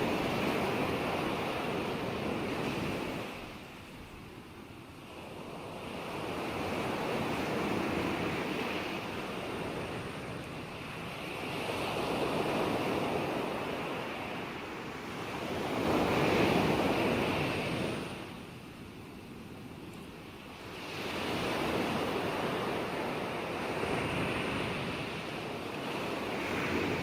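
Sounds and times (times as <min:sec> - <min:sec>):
ocean waves breaking on shore: 0:00.0 - 0:27.0.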